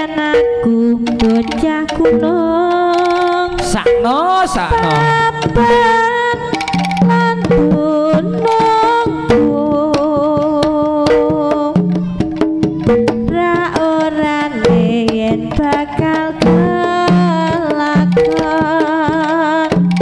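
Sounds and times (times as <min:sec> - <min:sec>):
wavering melody line: 0:00.0 - 0:20.0
hand drum strokes: 0:00.4 - 0:20.0.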